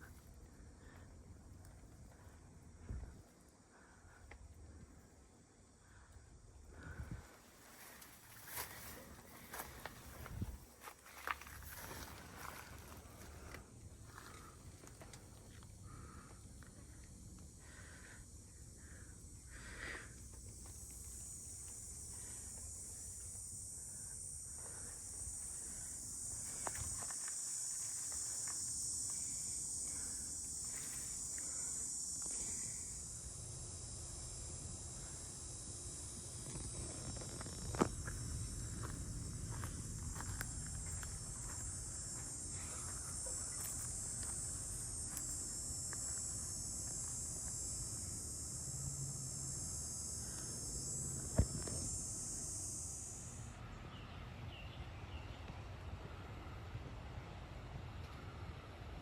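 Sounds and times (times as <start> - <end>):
insects chirring: 0.0 - 58.9.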